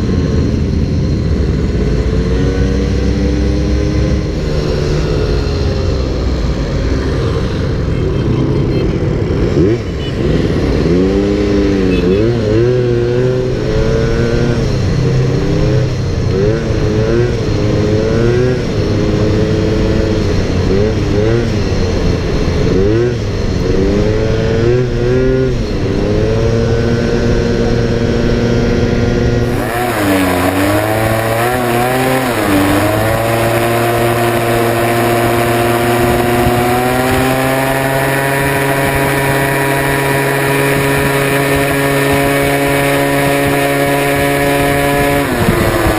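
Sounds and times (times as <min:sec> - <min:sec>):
motor scooter engine: 0:00.0 - 0:45.9.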